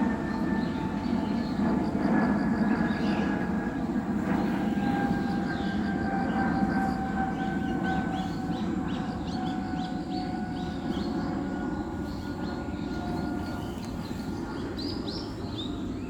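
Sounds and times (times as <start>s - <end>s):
passing train rumble: 0.0s - 16.0s.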